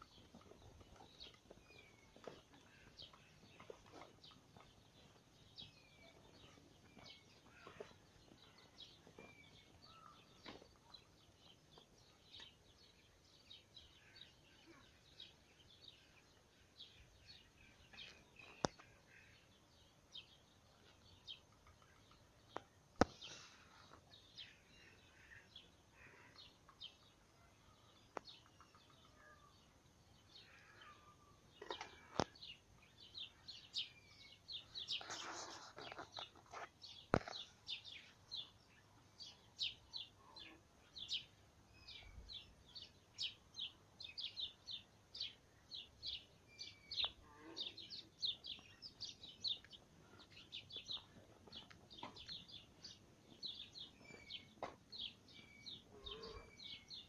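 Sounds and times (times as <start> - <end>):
faint birds chirping: 0.0 - 57.0.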